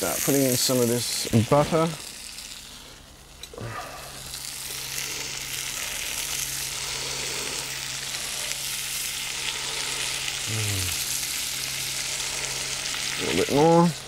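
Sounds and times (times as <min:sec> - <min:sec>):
butter sizzling in a hot skillet: 0:00.0 - 0:14.0.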